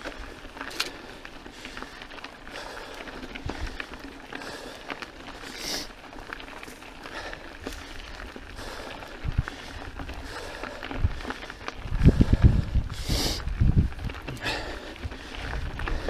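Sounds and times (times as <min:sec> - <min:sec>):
bike clicking and rattling: 0:00.0 - 0:16.0
bike tyres crunching over gravel: 0:00.0 - 0:16.0.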